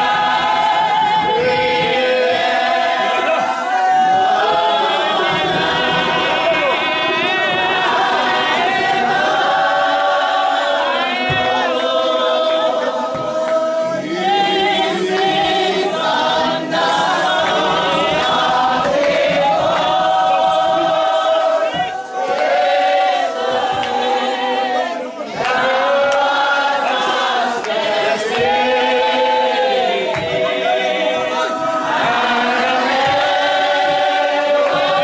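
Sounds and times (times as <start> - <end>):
congregation singing unaccompanied: 0.0 - 35.0.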